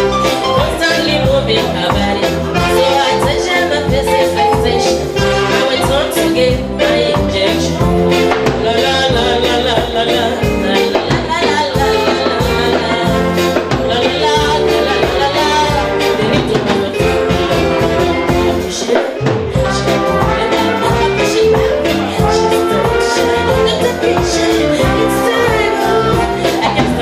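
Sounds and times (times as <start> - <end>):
upbeat band music with singing: 0.0 - 27.0.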